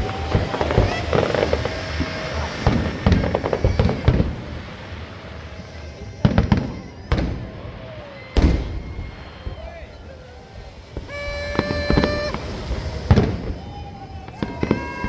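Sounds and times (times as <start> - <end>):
fireworks crackling bangs: 0.0 - 15.0
loud fireworks booms: 0.0 - 15.0.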